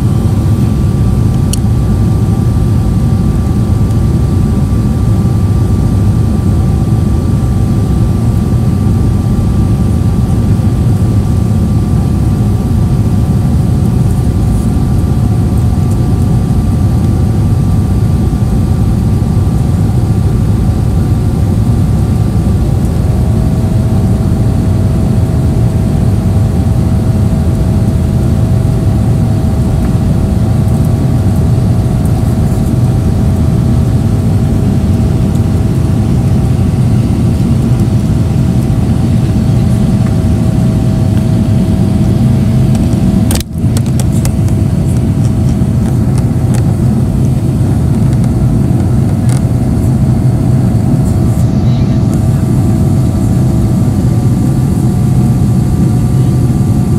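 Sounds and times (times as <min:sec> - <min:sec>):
airplane cabin rumble: 0:00.0 - 0:56.9
faint jet engine whine: 0:00.0 - 0:56.9.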